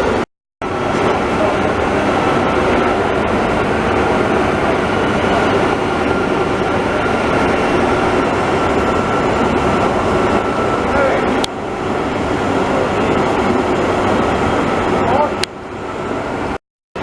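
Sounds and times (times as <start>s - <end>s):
lathe running: 0.0s - 16.6s.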